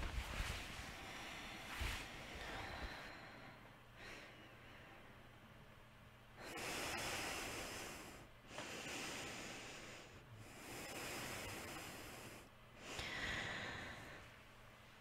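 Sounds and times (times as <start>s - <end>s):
person breathing slowly: 0.3s - 5.2s, 6.4s - 14.5s.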